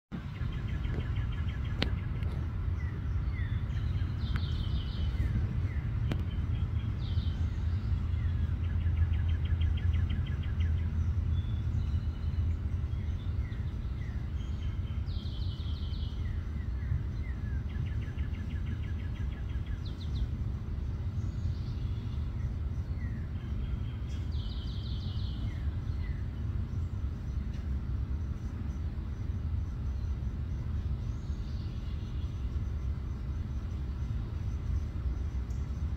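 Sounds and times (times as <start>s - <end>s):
steady low rumble: 0.1s - 35.9s.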